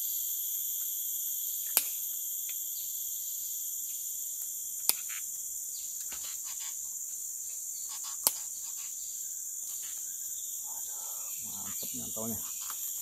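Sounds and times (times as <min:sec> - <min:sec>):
rainforest insects chorus: 0:00.0 - 0:13.0.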